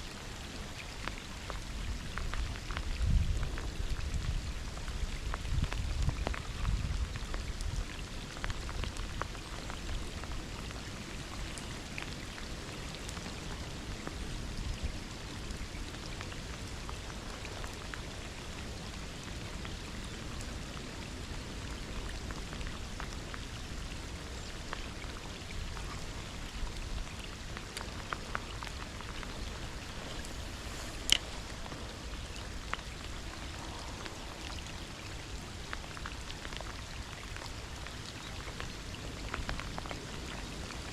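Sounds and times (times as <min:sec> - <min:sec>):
rain patter: 0:00.0 - 0:40.9.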